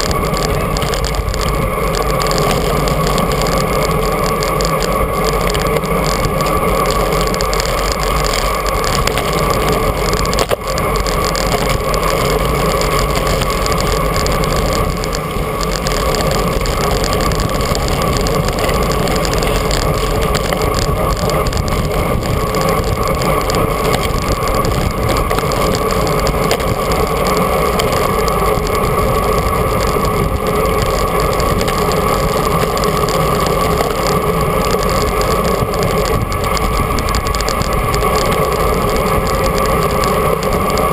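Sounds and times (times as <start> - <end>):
wind rushing over camera: 0.0 - 40.9.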